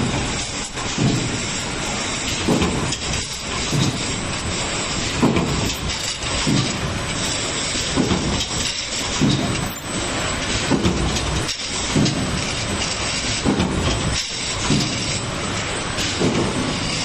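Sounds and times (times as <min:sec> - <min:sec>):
screen printing machine running: 0:00.0 - 0:17.0.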